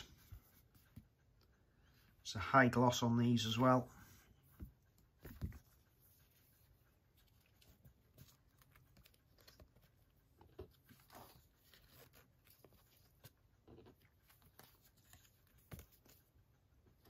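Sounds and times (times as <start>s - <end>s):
photo prints rustling and ticking: 0.0s - 17.0s.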